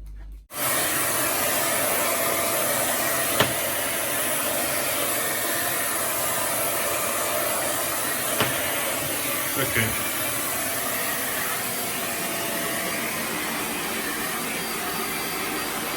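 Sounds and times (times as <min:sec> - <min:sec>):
vacuum cleaner running: 0:00.5 - 0:15.9.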